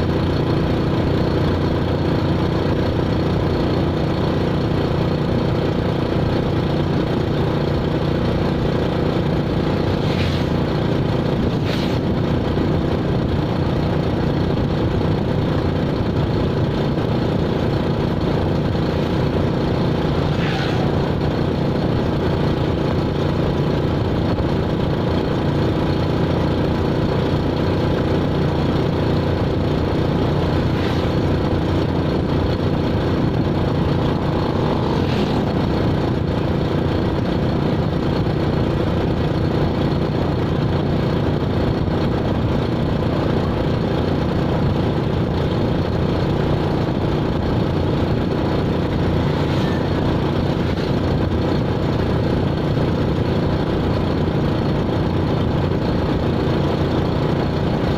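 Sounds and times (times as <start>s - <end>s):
vehicle engine running steadily: 0.0s - 57.9s.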